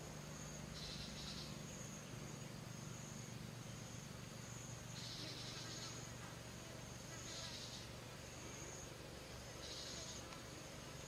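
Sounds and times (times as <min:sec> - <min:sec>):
high insect trill: 0:00.0 - 0:11.0
lower insect trill: 0:00.0 - 0:11.0
steady low hum: 0:00.0 - 0:11.0.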